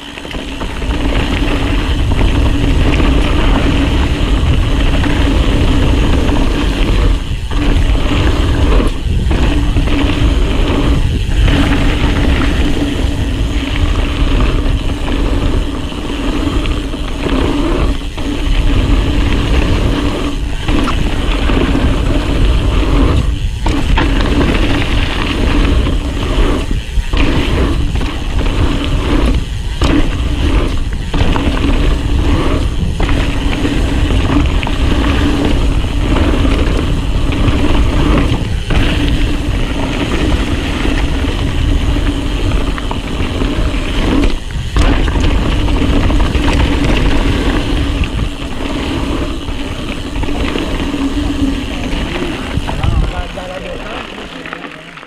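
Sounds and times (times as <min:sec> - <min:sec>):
bike rattling: 0:00.0 - 0:55.0
tyre noise on dirt: 0:00.0 - 0:55.0
wind rumble on microphone: 0:00.0 - 0:55.0.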